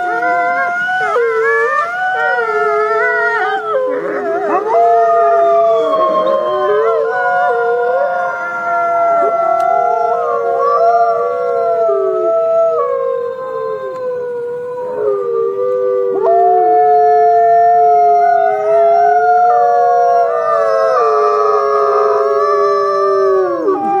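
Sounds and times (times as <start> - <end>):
wolves howling: 0.0 - 24.0.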